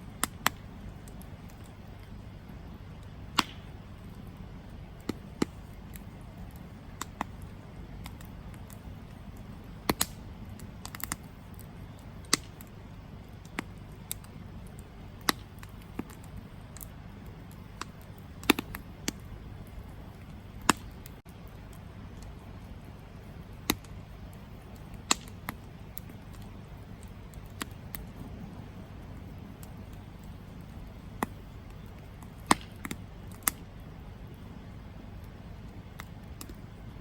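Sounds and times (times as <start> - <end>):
flame rushing: 0.0 - 37.0
wood crackling and popping: 0.0 - 37.0.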